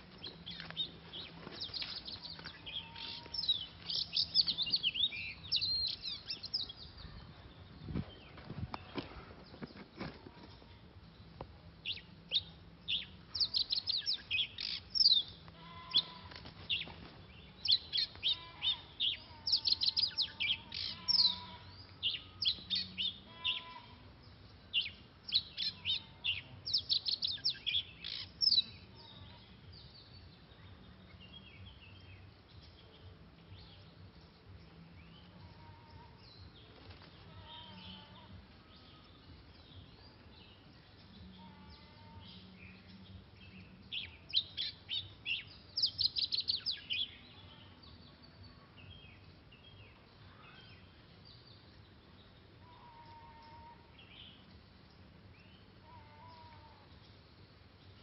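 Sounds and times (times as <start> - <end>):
bird chirping: 0.0 - 10.1, 11.1 - 36.7, 37.3 - 58.0.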